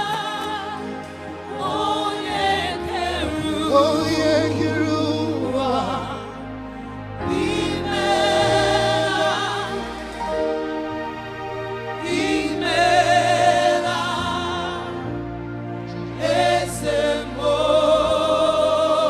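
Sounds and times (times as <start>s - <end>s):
gospel singers with vibrato: 0.0s - 19.0s
sustained low accompaniment: 0.1s - 19.0s.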